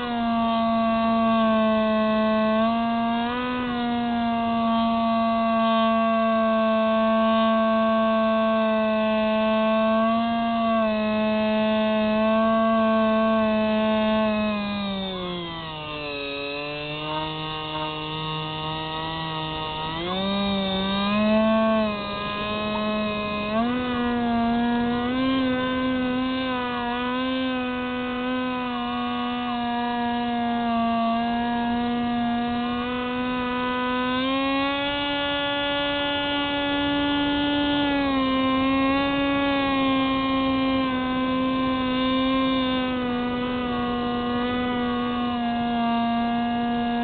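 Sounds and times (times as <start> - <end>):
electric motor and propeller whining: 0.0 - 47.0.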